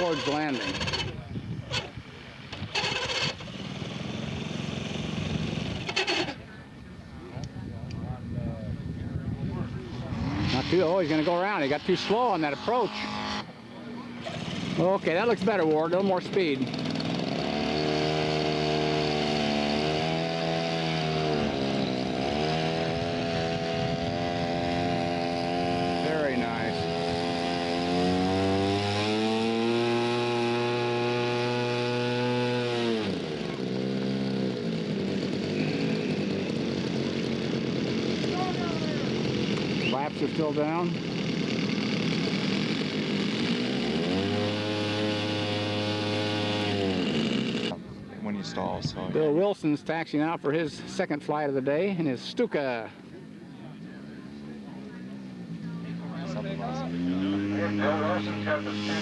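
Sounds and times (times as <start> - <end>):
model airplane engine droning: 0.0 - 49.2, 52.0 - 59.0.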